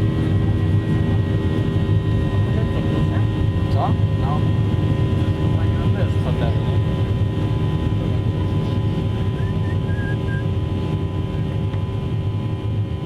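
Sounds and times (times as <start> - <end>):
airliner cabin engine drone: 0.0 - 13.0
constant hums: 0.0 - 13.0.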